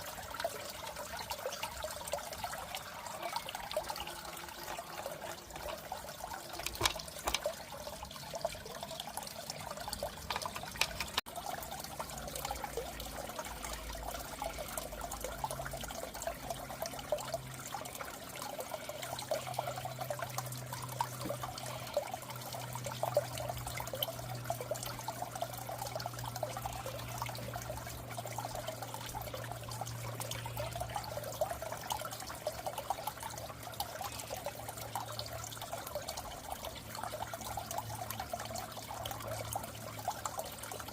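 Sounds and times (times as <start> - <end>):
water trickling and bubbling: 0.0 - 40.9.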